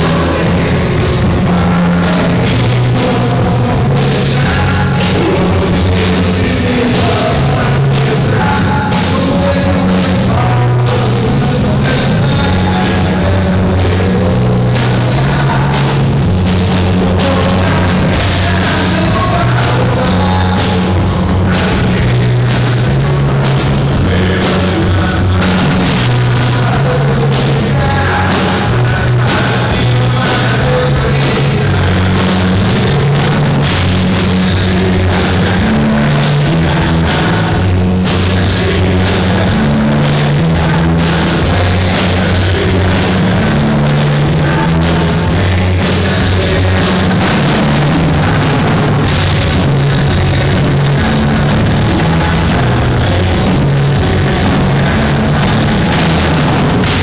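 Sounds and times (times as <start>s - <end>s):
bass line: 0.0s - 57.0s
drum kit: 0.0s - 57.0s
live rock band playing: 0.0s - 57.0s.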